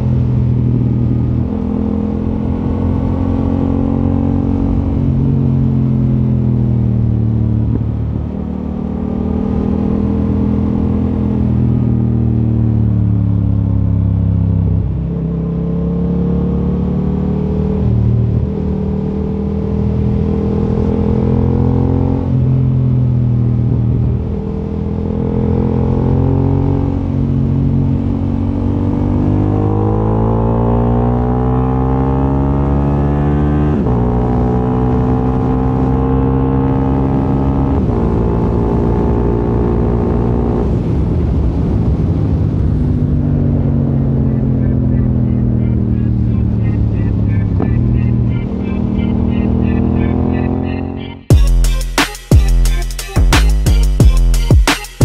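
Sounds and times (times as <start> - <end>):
motorcycle engine accelerating: 0.0 - 54.7.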